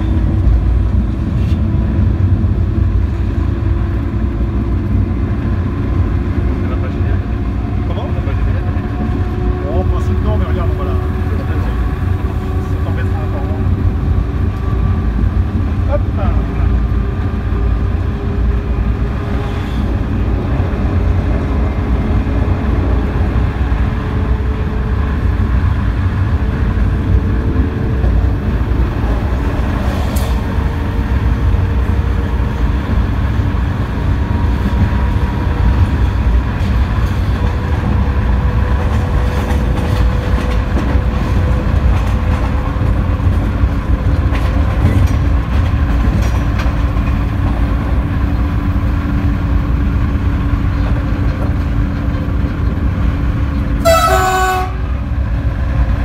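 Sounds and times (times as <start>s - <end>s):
train running gear rumble: 0.0s - 56.0s.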